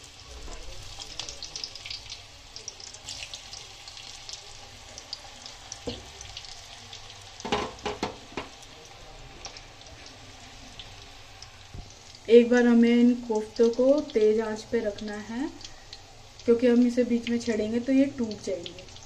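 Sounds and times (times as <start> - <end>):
hot oil sizzling and crackling: 0.0 - 19.0.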